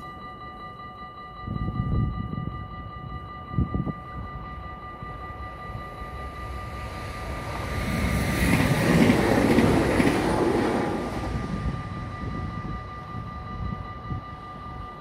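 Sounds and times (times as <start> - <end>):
crossing warning bells ringing: 0.0 - 15.0
train rumble and wheel clatter: 1.4 - 15.0.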